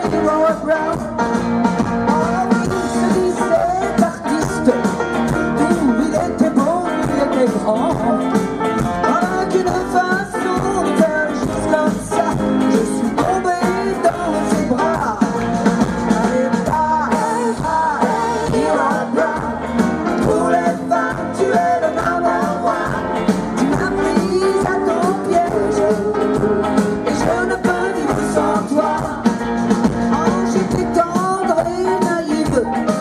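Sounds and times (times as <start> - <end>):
person singing: 0.0 - 1.3, 2.0 - 5.0, 5.6 - 33.0
drum kit playing: 0.0 - 33.0
electric guitars: 0.0 - 33.0.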